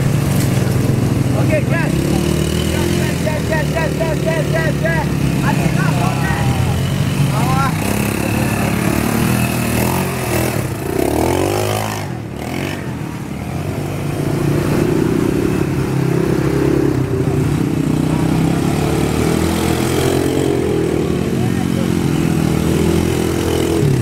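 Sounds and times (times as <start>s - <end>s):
quad bike engines passing: 0.0s - 24.0s.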